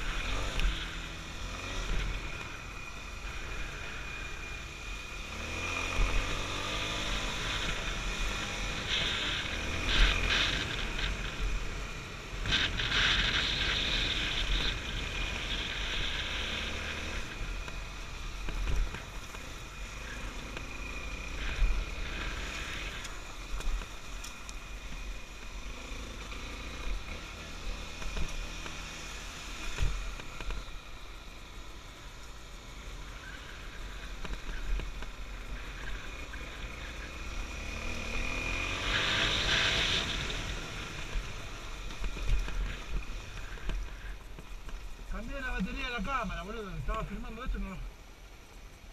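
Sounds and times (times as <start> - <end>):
dirt bike engine running: 0.0 - 47.7.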